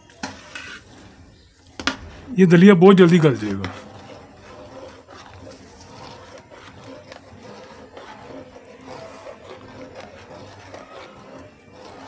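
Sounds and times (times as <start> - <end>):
spoon stirring in metal pot: 0.0 - 2.0, 3.1 - 12.0.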